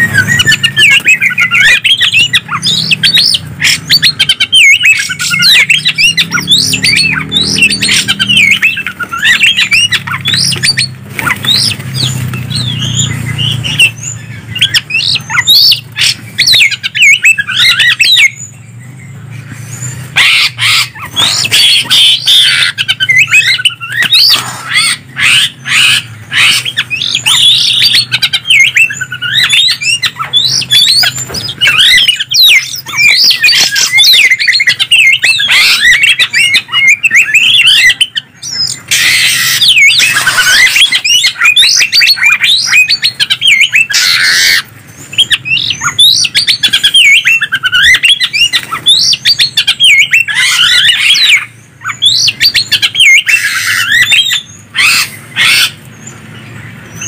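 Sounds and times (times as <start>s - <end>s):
birds whistling and trilling: 0.0s - 57.0s.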